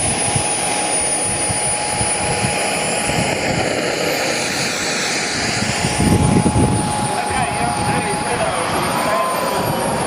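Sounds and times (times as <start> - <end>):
model aircraft engine drone: 0.0 - 10.0
wind buffeting microphone: 0.0 - 10.0.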